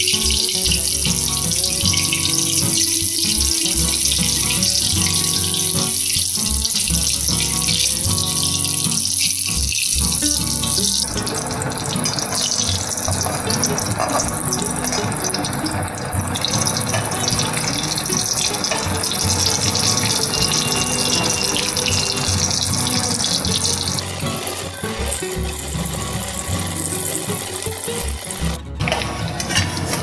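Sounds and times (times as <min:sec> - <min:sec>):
hot oil sizzling and bubbling: 0:00.0 - 0:29.0
background music: 0:00.0 - 0:30.0.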